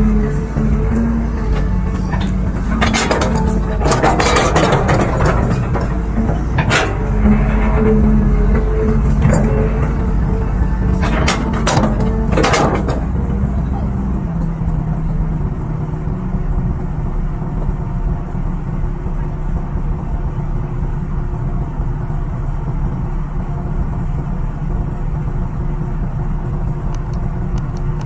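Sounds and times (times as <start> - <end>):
excavator diesel engine idling: 0.0 - 28.0.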